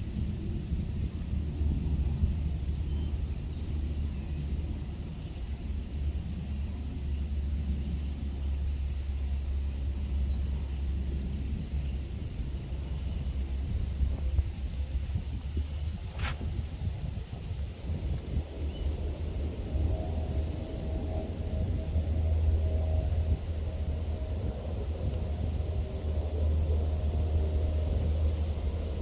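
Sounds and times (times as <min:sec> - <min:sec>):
distant aeroplane rumble: 0:00.0 - 0:29.0
wind: 0:00.0 - 0:29.0.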